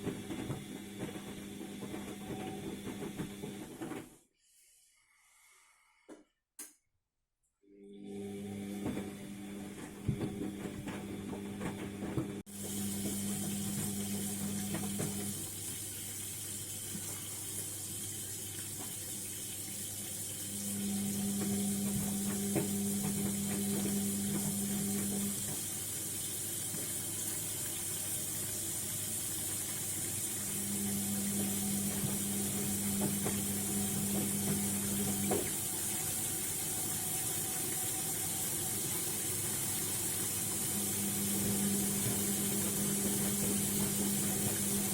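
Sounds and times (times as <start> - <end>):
washing machine motor tone: 0.0 - 4.2, 7.6 - 44.9
water rushing in washing machine: 0.0 - 4.3, 7.7 - 44.9.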